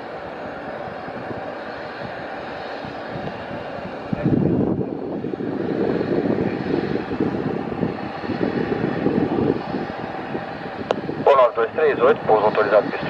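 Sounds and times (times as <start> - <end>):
distant jet airliner rumble: 0.0 - 13.0
wind buffeting microphone: 0.0 - 13.0.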